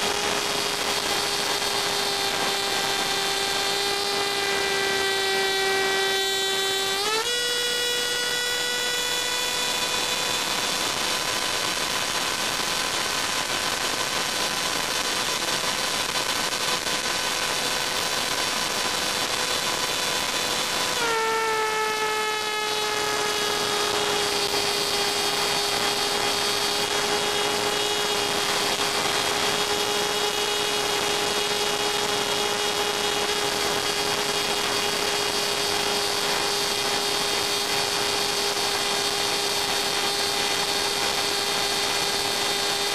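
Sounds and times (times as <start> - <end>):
electronic whine: 0.0 - 42.9.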